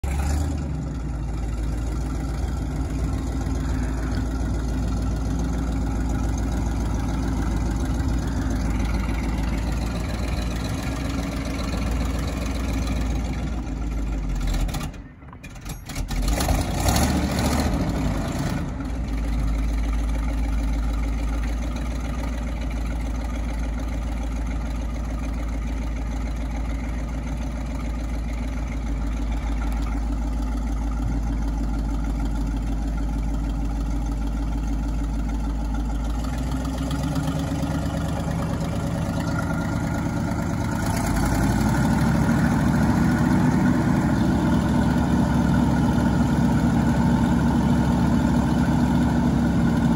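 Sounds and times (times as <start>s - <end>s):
truck engine idling: 0.0s - 49.9s.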